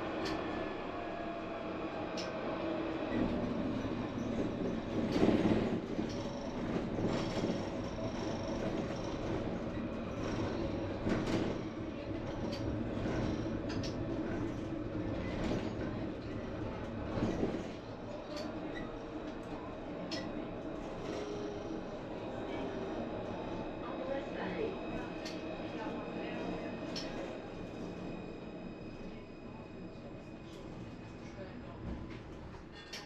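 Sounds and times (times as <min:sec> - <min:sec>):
tram rolling on track: 0:00.0 - 0:33.0.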